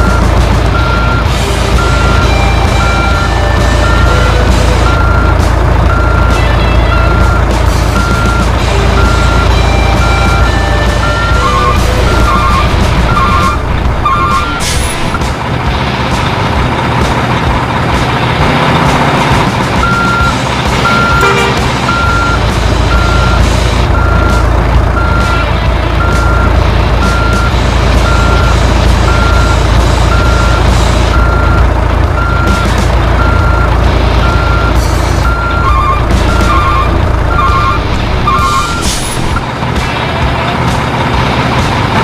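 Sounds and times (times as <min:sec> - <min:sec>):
reversing alarm beeping: 0:00.0 - 0:15.2, 0:19.8 - 0:25.4, 0:26.0 - 0:39.4
vehicle rumble: 0:00.0 - 0:42.0.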